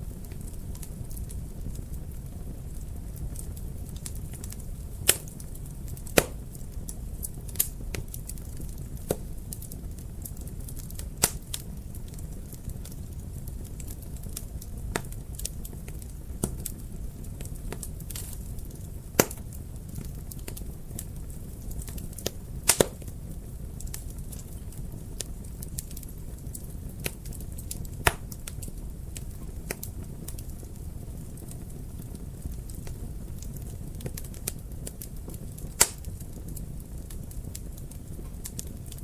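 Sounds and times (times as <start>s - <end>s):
fire crackling and popping: 0.0s - 39.0s
low rumble of flames: 0.0s - 39.0s.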